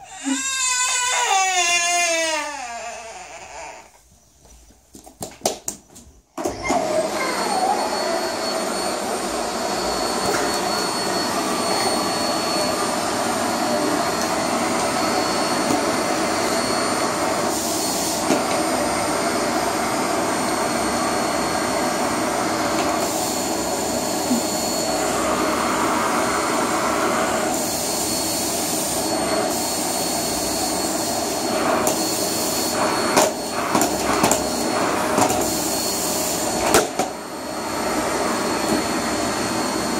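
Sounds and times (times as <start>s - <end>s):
vacuum cleaner whining: 0.0s - 4.6s, 6.2s - 39.9s.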